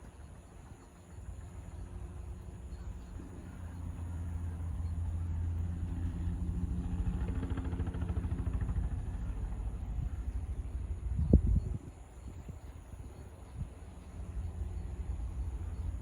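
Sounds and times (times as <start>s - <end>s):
helicopter rotor and engine: 0.9s - 16.0s.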